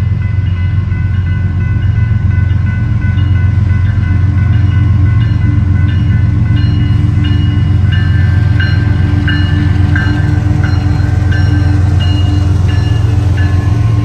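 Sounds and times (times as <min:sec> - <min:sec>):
freight train rumbling past: 0:00.0 - 0:14.0
high ringing tones: 0:00.2 - 0:14.0.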